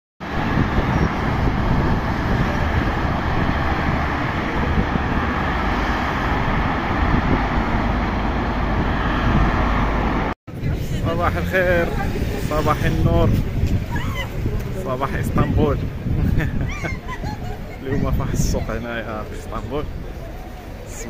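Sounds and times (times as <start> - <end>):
wind on microphone: 0.2 - 18.8
highway traffic: 0.2 - 21.0.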